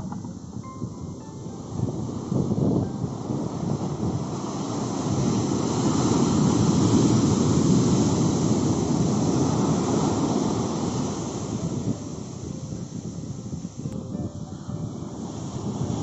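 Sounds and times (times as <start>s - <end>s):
waves breaking on beach: 1.7s - 16.0s.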